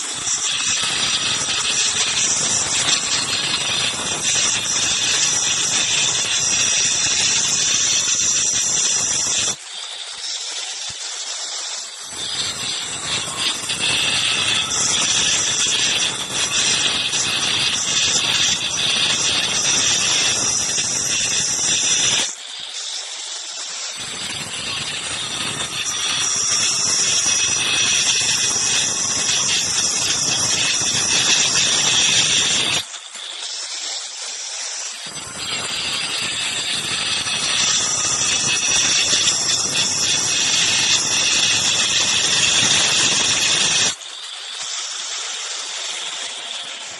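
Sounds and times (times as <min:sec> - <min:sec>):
electric stone cutter whining: 0:00.0 - 0:46.9.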